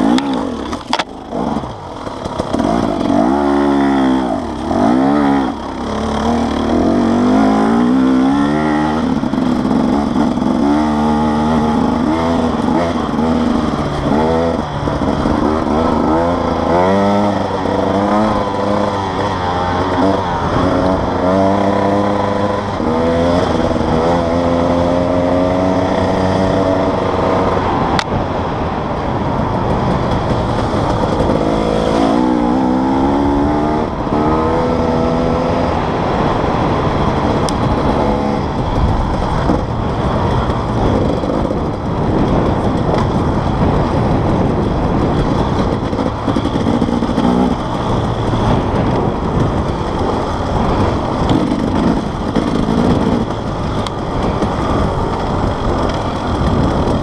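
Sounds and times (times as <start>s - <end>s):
motorcycle engine revving: 0.0s - 57.0s
wind and ground noise: 0.0s - 57.0s.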